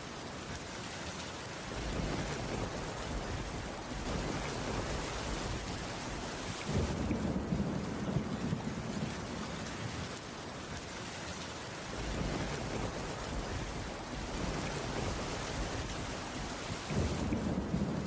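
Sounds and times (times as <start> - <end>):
rain on a wooden roof: 0.0 - 18.0.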